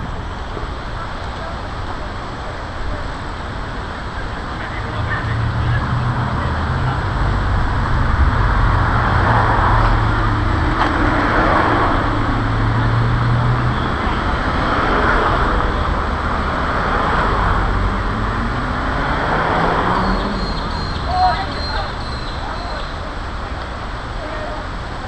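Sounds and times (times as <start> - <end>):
cars passing by: 0.0 - 25.0
steady traffic background: 0.0 - 25.0.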